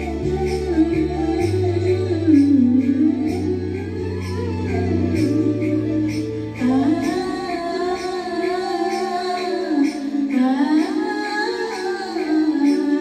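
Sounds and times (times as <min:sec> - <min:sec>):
recorded backing music: 0:00.0 - 0:13.0
woman singing slow melody: 0:00.0 - 0:13.0.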